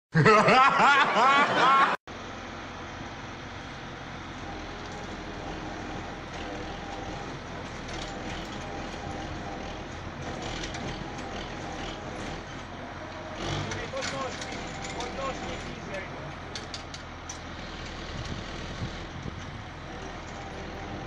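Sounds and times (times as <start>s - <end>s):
tractor diesel engine straining: 0.5s - 21.0s.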